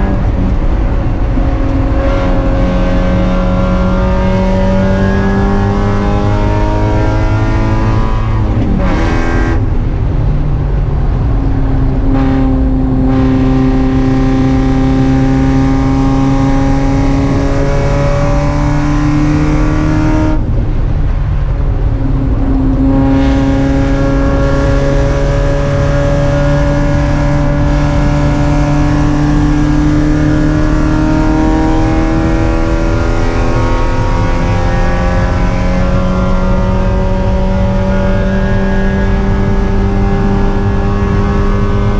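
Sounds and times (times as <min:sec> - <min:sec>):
race car engine accelerating: 0:00.0 - 0:41.9.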